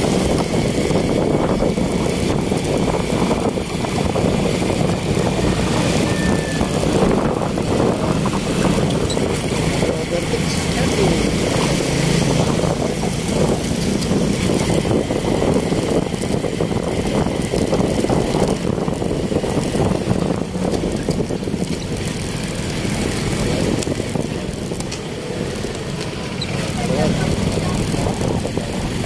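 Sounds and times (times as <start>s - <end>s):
street traffic noise: 0.0s - 29.0s.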